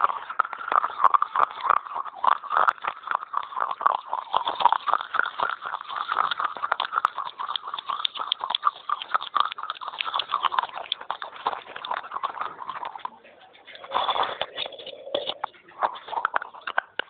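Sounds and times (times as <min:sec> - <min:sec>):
clay pot pieces crunched and chewed: 0:00.0 - 0:17.0.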